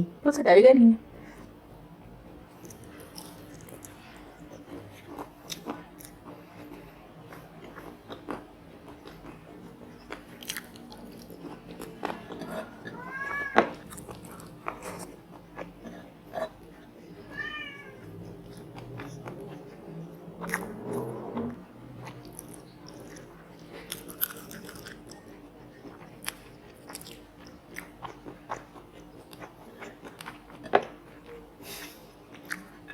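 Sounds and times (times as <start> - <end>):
chewing and crunching food: 2.5 - 32.9.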